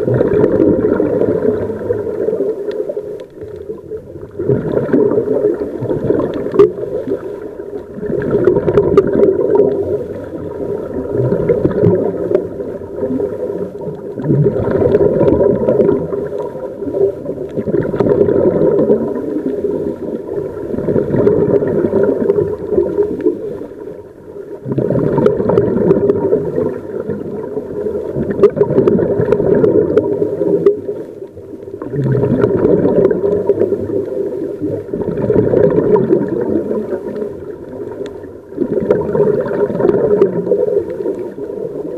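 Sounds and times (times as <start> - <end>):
muffled underwater bubbles gurgling: 0.0 - 41.9.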